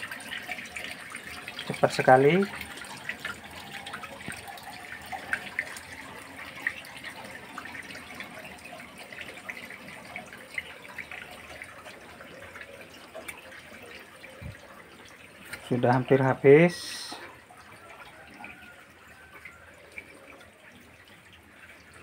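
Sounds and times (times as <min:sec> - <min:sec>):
water dripping: 0:00.0 - 0:22.0
water pouring and splashing on floor: 0:00.0 - 0:22.0.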